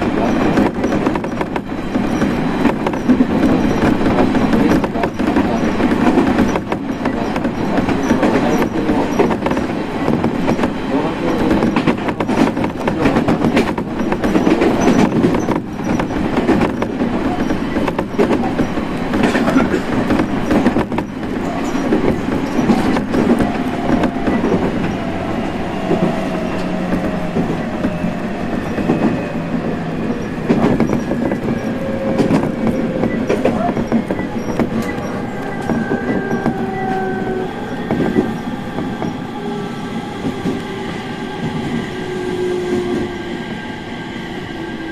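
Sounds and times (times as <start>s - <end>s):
train wheels rumbling and clicking: 0.0s - 44.9s.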